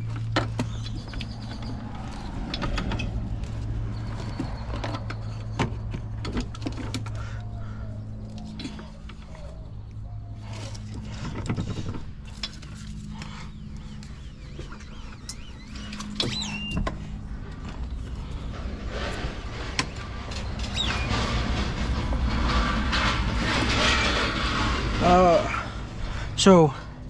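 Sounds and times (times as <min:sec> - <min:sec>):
short squeaks: 0:00.0 - 0:24.6
low hum: 0:00.0 - 0:27.0.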